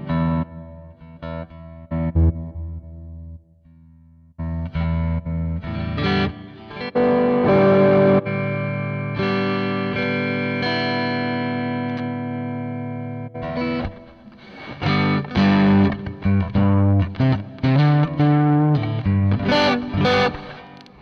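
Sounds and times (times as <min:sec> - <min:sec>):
overdriven electric guitar chords: 0:00.0 - 0:21.0.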